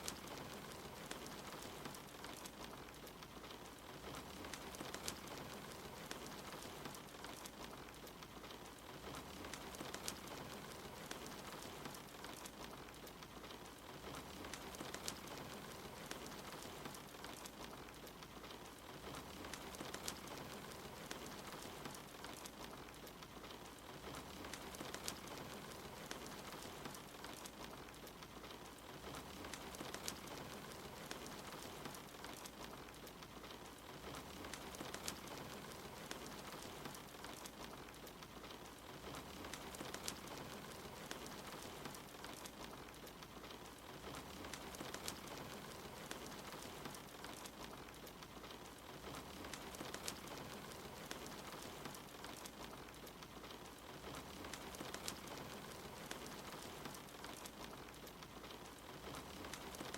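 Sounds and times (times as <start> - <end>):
fireplace crackling and popping: 0.0 - 59.9
rain hiss: 0.0 - 59.9.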